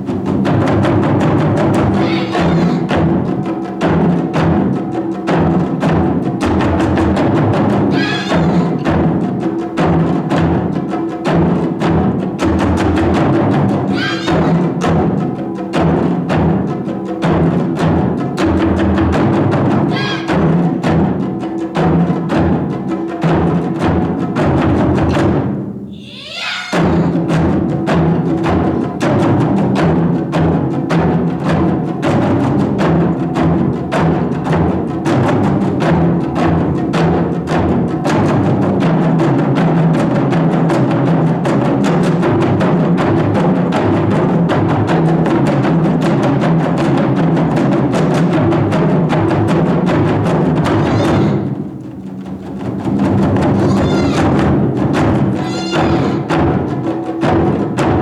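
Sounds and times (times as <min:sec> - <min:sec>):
taiko drums playing fast: 0:00.0 - 0:58.0.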